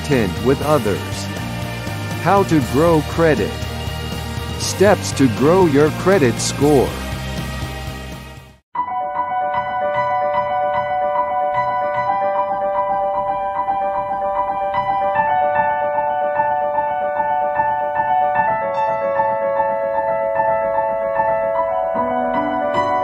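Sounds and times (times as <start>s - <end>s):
keyboard chords: 0.0s - 8.1s, 8.8s - 23.0s.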